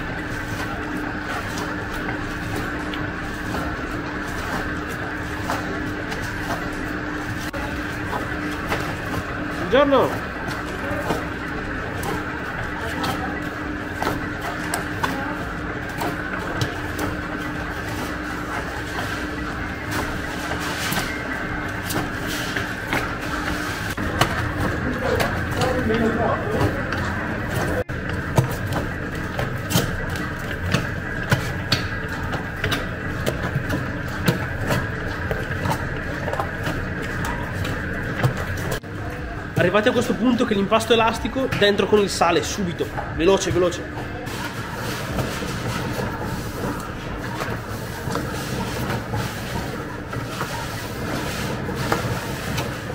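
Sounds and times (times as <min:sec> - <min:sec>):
electric dough mixer running: 0:00.0 - 0:52.9.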